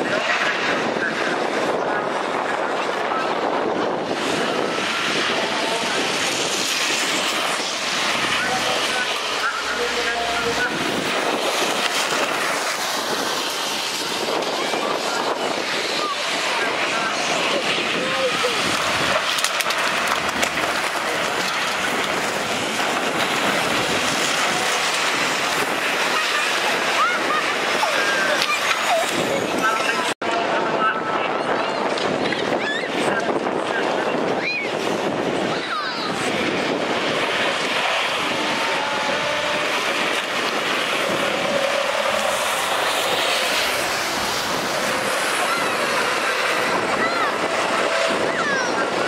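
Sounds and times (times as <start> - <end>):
bus engine running: 0.0 - 30.2, 34.8 - 49.0
steady rushing noise: 0.0 - 49.0.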